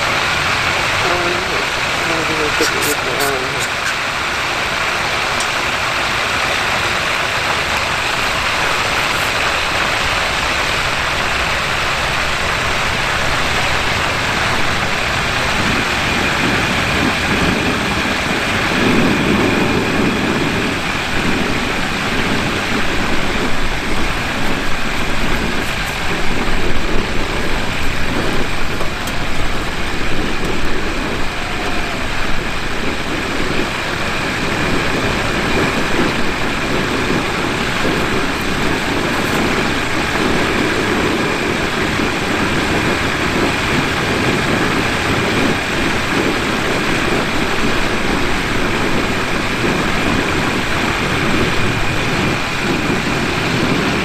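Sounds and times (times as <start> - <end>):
hot pot hissing: 0.0 - 43.8
gas burner roaring: 0.0 - 54.0
low rumbling: 0.0 - 54.0.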